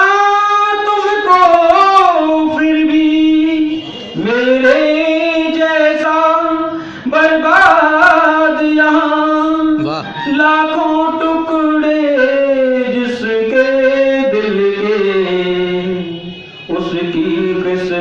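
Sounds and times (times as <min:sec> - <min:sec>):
man singing melodic chant: 0:00.0 - 0:18.0.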